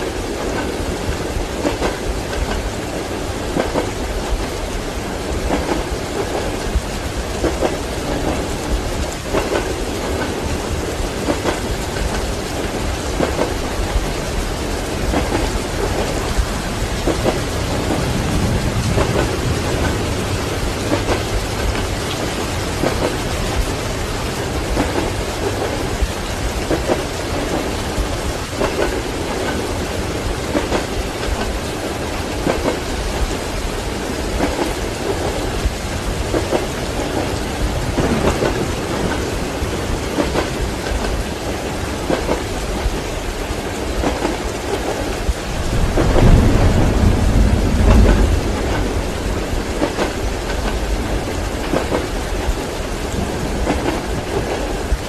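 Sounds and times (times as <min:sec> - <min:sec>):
heavy rain: 0:00.0 - 0:55.0
low thunder rumble: 0:00.1 - 0:43.0, 0:45.2 - 0:55.0.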